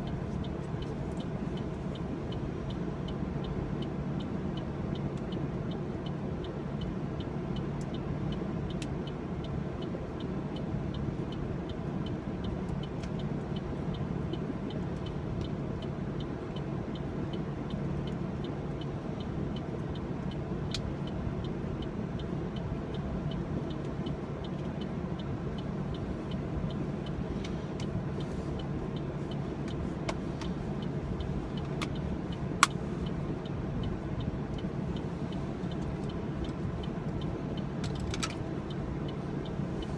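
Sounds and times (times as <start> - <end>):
car engine idling: 0.0 - 39.9
light regular ticking: 0.0 - 39.9.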